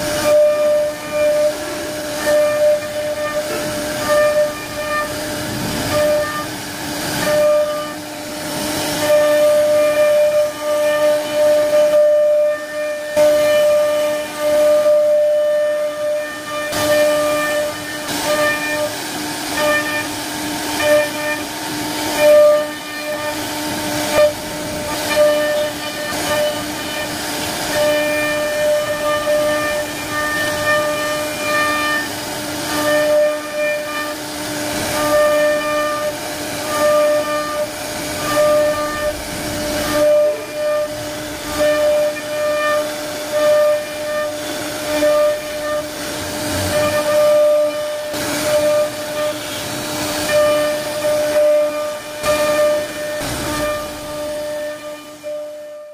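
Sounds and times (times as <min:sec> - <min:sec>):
hiss of wood cutting: 0:00.0 - 0:55.9
router spindle high whine: 0:00.0 - 0:55.9.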